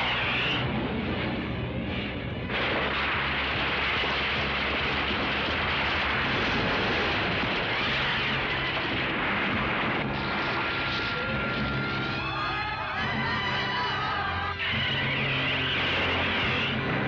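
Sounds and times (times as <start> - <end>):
explosions and building crashing: 0.0 - 14.1.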